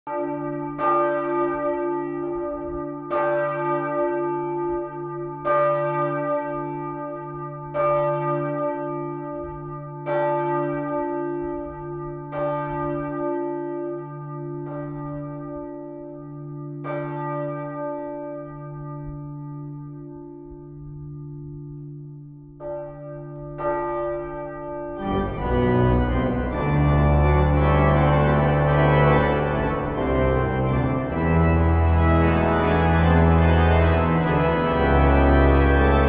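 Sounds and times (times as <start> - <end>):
church bell tolling: 0.1 - 36.0.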